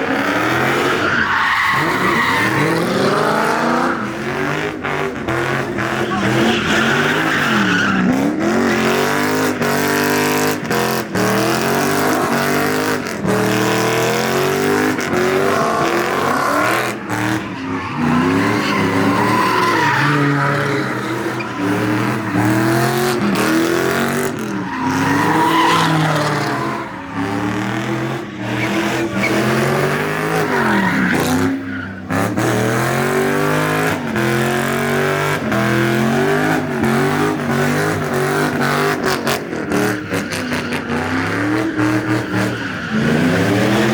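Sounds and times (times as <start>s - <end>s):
car engine revving: 0.0s - 43.9s
tires squealing and skidding: 0.0s - 43.9s.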